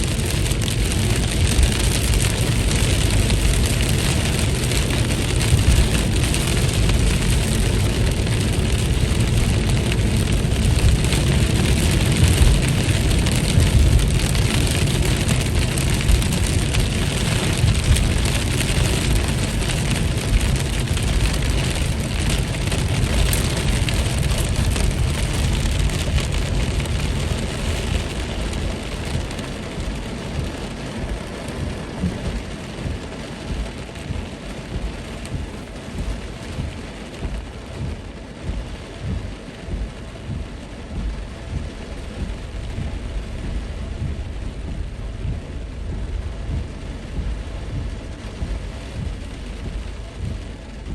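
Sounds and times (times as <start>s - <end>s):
deep low rumble: 0.0s - 50.9s
heavy rain falling: 0.0s - 50.9s.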